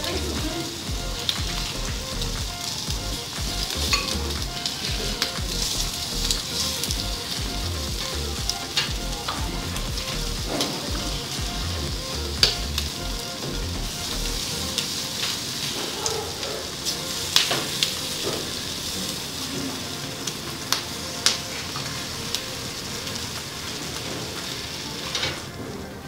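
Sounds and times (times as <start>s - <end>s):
ribs sizzling on a grill: 0.0s - 26.0s.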